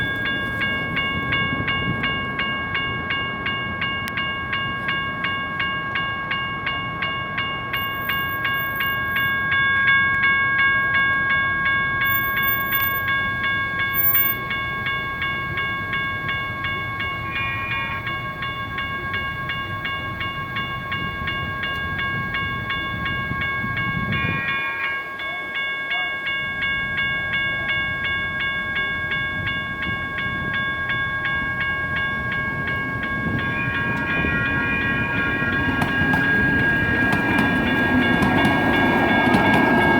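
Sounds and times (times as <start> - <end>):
electronic crossing bell ringing: 0.0 - 39.9
train rumble: 0.0 - 39.9.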